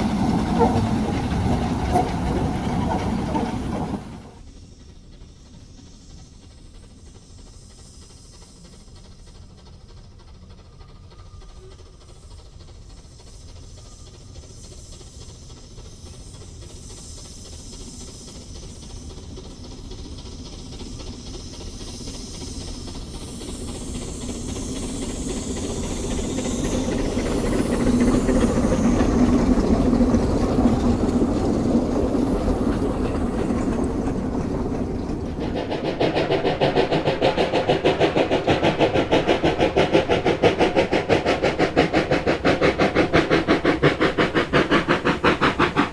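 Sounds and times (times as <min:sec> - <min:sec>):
steam locomotives hissing: 0:00.0 - 0:45.9.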